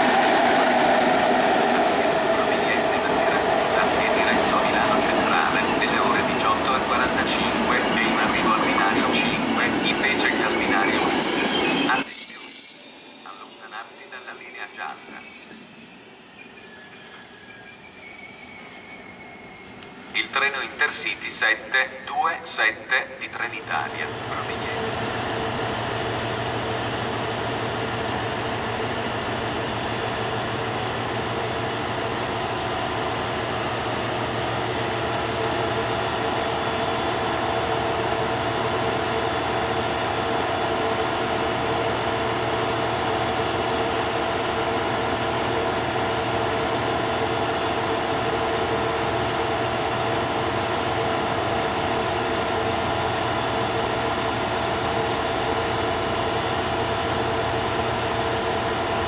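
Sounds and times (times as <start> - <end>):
diesel locomotive engine humming: 0.0 - 12.2, 16.4 - 59.0.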